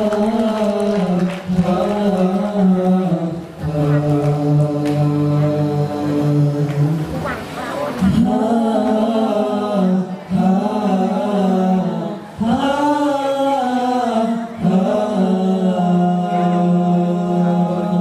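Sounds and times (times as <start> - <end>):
male a cappella group singing: 0.0 - 18.0.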